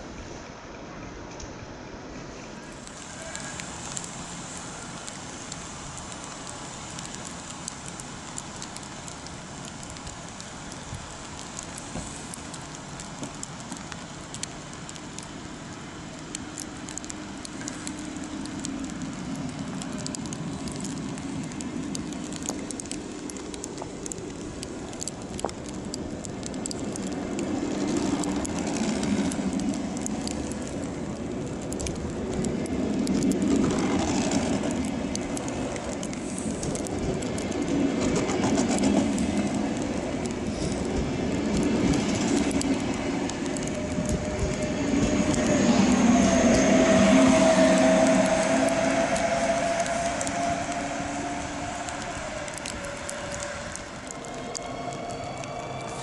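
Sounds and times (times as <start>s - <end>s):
steady hiss and crackle: 0.0s - 56.0s
train rolling slowly: 0.0s - 56.0s
wheels clicking over rail joints: 2.7s - 56.0s.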